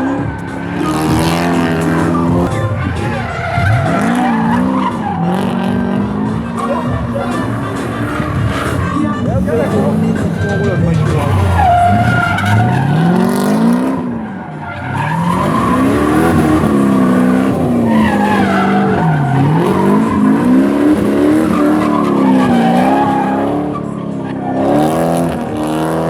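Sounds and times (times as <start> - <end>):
car engine revving hard: 0.0 - 26.0
tyres squealing and skidding: 0.0 - 26.0.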